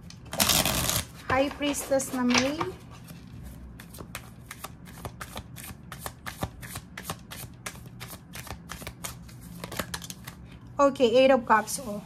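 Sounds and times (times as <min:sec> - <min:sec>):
cards being shuffled: 0:00.0 - 0:10.5.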